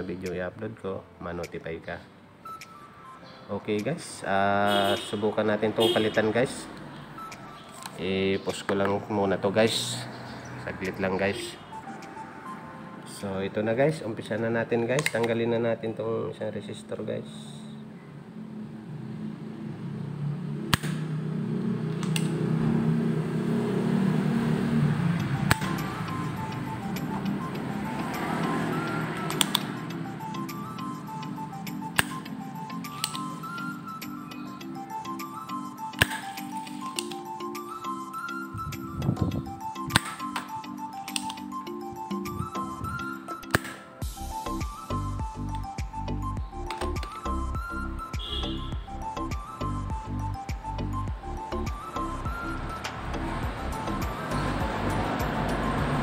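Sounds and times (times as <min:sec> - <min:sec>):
background music: 0:00.0 - 0:56.0.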